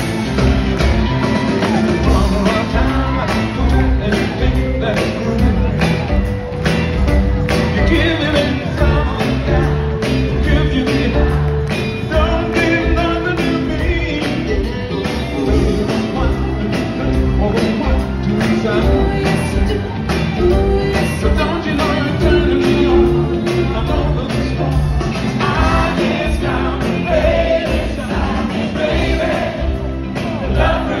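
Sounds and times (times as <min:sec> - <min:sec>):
live band playing: 0:00.0 - 0:31.0
steady drum beat: 0:00.0 - 0:31.0.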